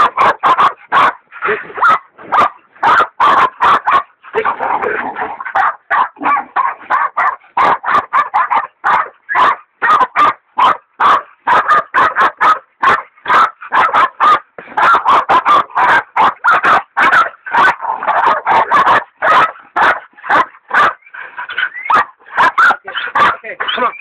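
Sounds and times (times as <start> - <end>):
dogs barking rapidly: 0.0 - 24.0.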